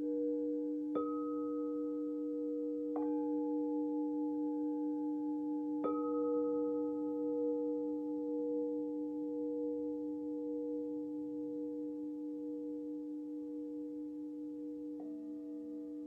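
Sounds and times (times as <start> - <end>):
singing bowls ringing: 0.0 - 16.0.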